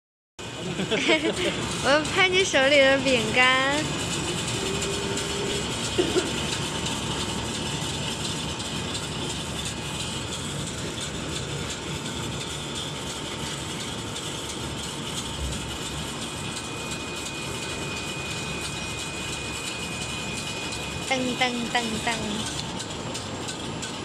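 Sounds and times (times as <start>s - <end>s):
conveyor machine running: 0.4s - 24.0s.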